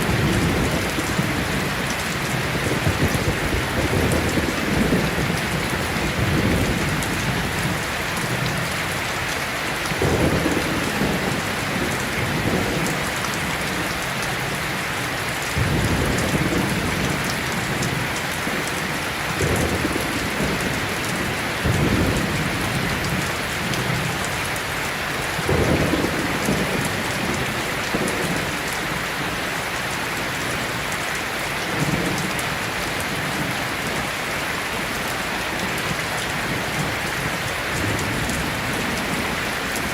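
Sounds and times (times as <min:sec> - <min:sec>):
thunder rumbles: 0:00.0 - 0:14.7, 0:15.5 - 0:29.4, 0:34.8 - 0:39.9
steady rain: 0:00.0 - 0:39.9.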